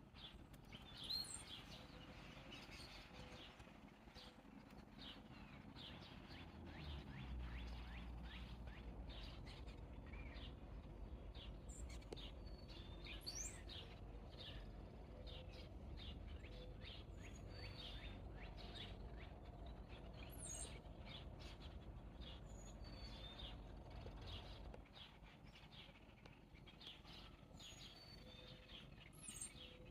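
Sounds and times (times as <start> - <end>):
low steady rumble: 0.0 - 29.9
birds chirping: 0.1 - 29.9.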